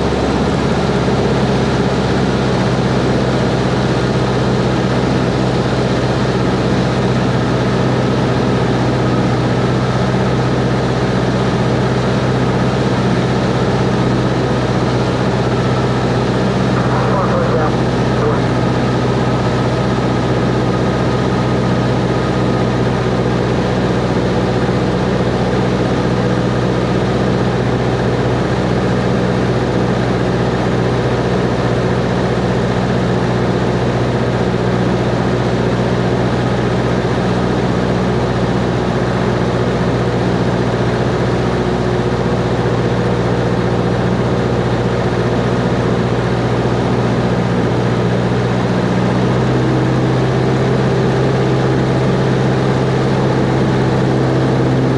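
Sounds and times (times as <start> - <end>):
light aircraft engine and propeller: 0.0 - 54.9.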